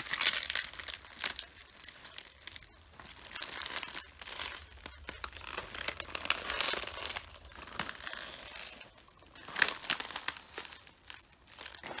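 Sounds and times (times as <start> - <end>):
leaves crunching underfoot: 0.0 - 12.0.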